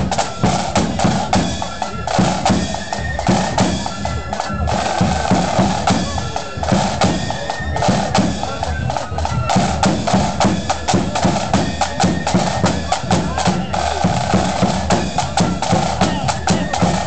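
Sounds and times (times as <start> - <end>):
flutes playing tune: 0.0 - 17.0
side drums and bass drum: 0.0 - 17.0.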